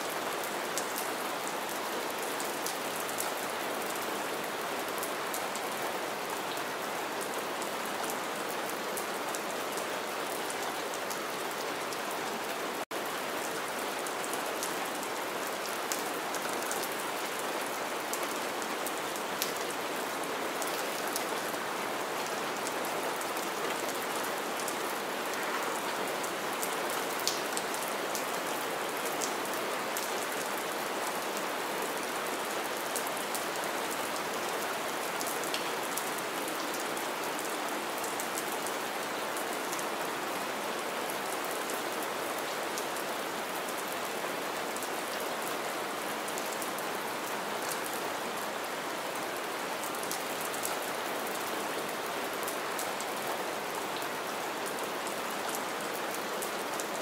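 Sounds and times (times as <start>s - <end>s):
rain on wet ground and puddles: 0.0s - 57.0s.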